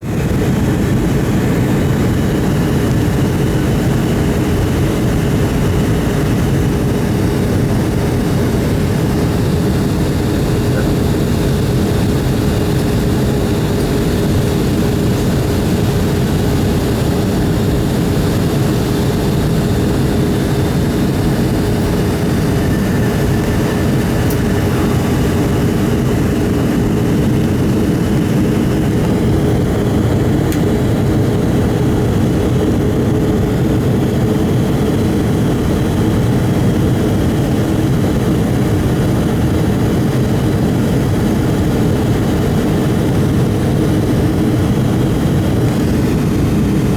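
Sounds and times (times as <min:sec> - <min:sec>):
airplane engine drone in flight: 0:00.0 - 0:46.9.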